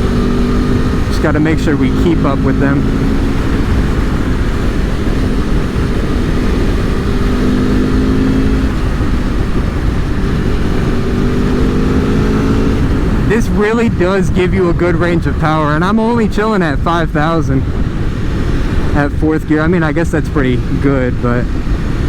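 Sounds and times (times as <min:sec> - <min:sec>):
motorcycle engine cruising: 0:00.0 - 0:22.0
wind rumble on microphone: 0:00.0 - 0:22.0.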